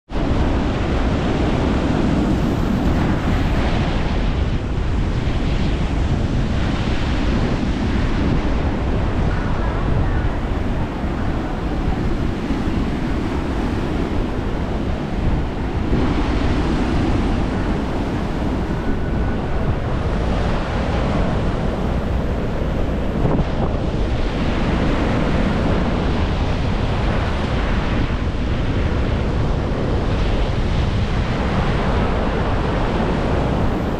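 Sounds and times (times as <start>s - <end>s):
waves breaking on shore: 0.1s - 33.9s
wind buffeting microphone: 0.1s - 33.9s.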